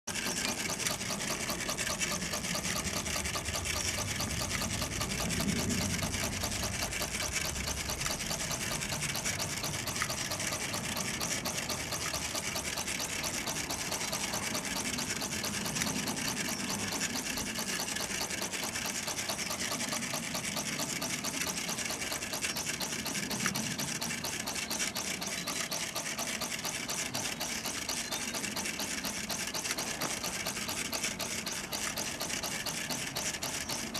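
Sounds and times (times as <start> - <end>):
model steam engine running: 0.1 - 33.9.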